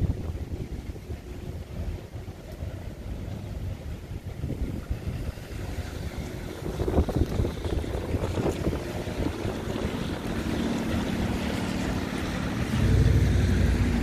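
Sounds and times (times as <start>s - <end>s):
nearby vehicle engine hum: 0.0s - 14.0s
tyres hissing on wet road: 0.0s - 14.0s
wind buffeting microphone: 0.0s - 14.0s.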